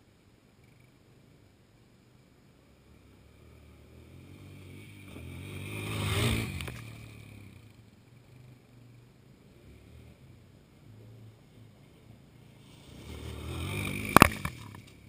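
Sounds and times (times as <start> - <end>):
atv engine passing by: 2.6 - 15.0.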